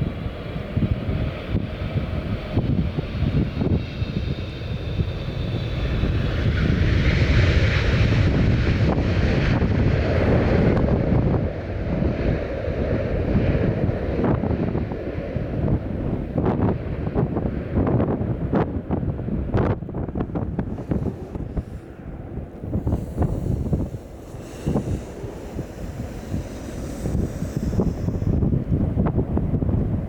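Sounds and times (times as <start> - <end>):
jet airliner engine: 0.0 - 30.0
wind buffeting microphone: 0.0 - 30.0.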